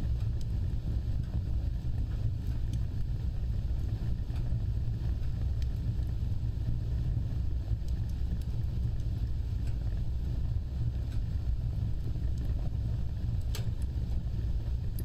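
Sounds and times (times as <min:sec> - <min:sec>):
fire crackles and pops: 0:00.0 - 0:15.0
flames rumbling: 0:00.0 - 0:15.0.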